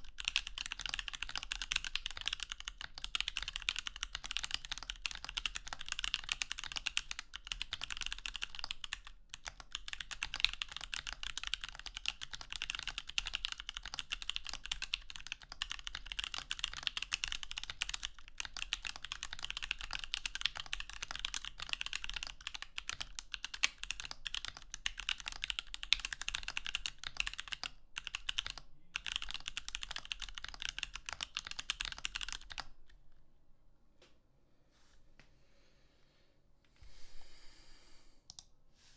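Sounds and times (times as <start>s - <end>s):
mechanical keyboard typing: 0.0s - 32.7s.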